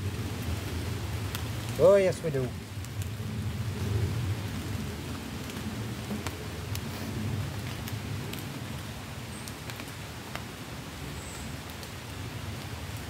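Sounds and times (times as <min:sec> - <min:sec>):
rain falling through trees: 0:00.0 - 0:13.0
sharp drips from leaves: 0:00.0 - 0:13.0.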